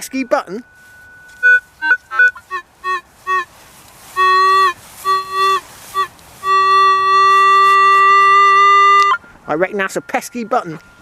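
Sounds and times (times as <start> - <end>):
metal detector beeps and tones: 0.0 - 3.5, 4.2 - 11.0.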